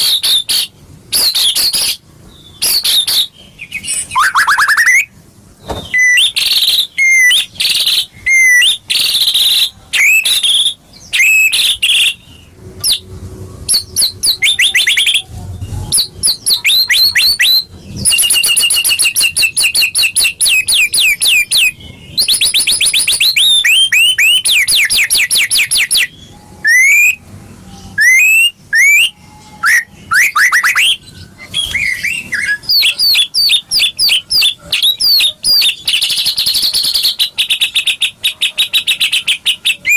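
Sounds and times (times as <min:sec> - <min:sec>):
bird singing whistles and trills: 0:00.0 - 0:13.1, 0:13.7 - 0:39.9.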